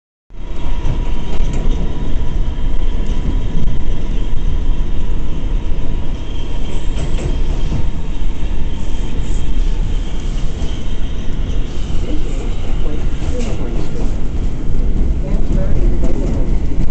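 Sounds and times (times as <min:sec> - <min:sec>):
wheels rumbling on rail: 0:00.3 - 0:16.9.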